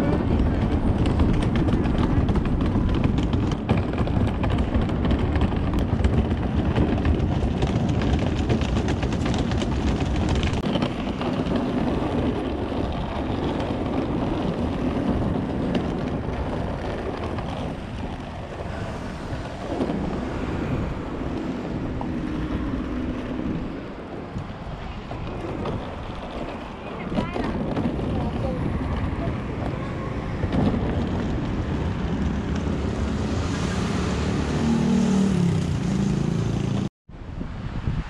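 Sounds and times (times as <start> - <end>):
suitcase wheels rolling on paving: 0.0 - 36.9
wind on microphone: 0.0 - 38.0.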